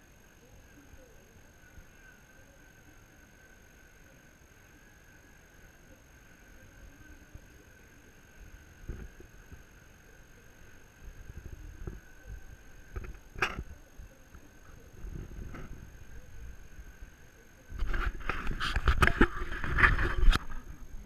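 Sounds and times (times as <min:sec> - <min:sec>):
faint high whine: 0:00.0 - 0:21.0
faint low rumble: 0:00.0 - 0:21.0.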